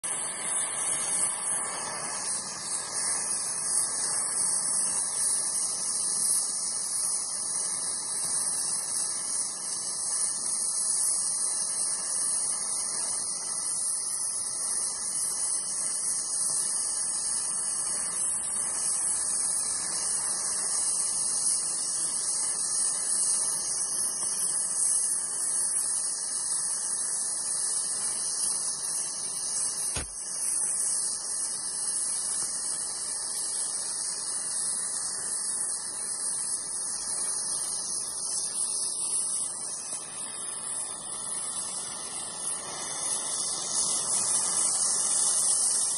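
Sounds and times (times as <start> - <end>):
torch flame hissing: 0.0 - 45.9.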